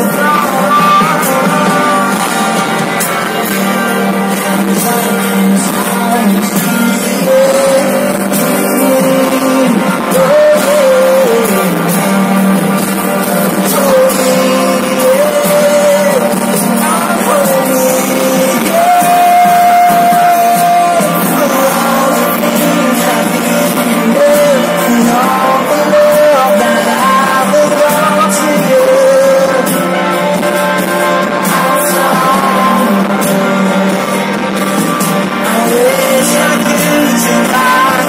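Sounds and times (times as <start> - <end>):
electric guitar: 0.0 - 38.0
live band playing: 0.0 - 38.0
person singing: 0.0 - 38.0.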